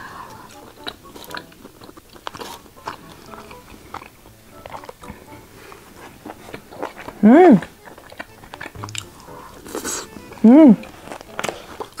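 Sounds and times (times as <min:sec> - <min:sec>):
chewing and biting food: 0:00.0 - 0:12.0.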